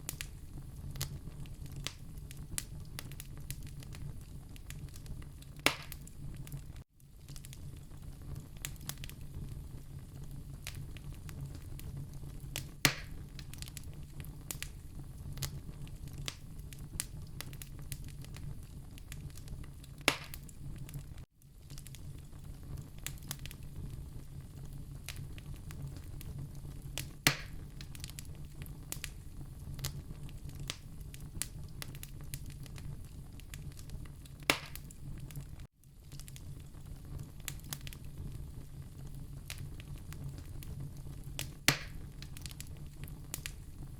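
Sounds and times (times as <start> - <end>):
fireplace fire crackling: 0.0 - 43.9
loud fire pops: 0.0 - 43.9.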